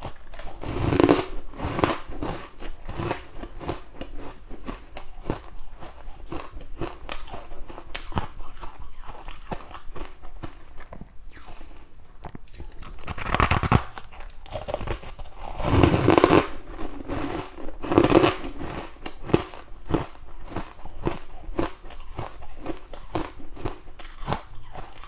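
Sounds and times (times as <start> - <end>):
frost being chewed crunching: 0.0 - 25.0.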